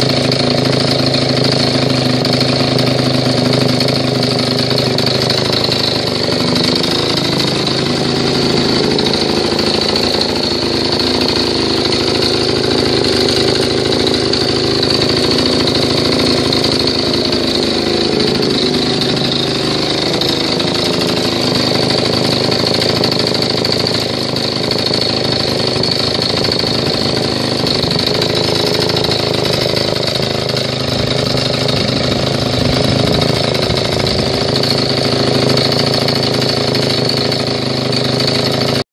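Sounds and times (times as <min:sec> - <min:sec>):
engine-driven water pump running: 0:00.0 - 0:38.9.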